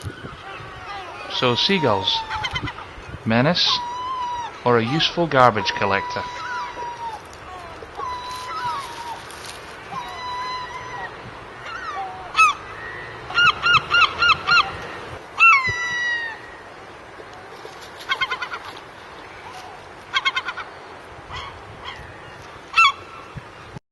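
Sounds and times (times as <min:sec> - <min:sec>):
gulls calling: 0:00.0 - 0:23.8.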